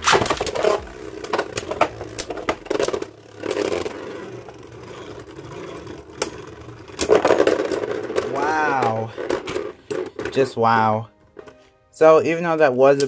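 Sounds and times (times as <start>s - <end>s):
spinning tops scraping and whirring: 0.0s - 10.8s
spinning tops clattering: 0.2s - 10.7s.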